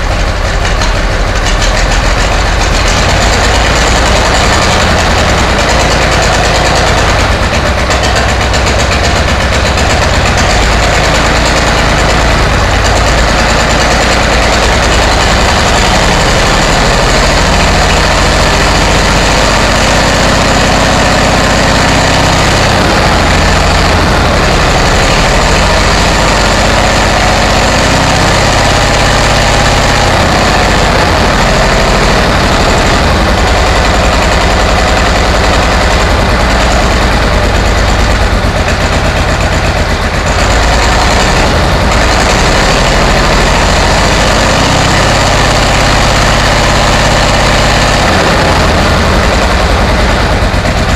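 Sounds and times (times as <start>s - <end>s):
diesel tractor engine idling: 0.0s - 50.9s.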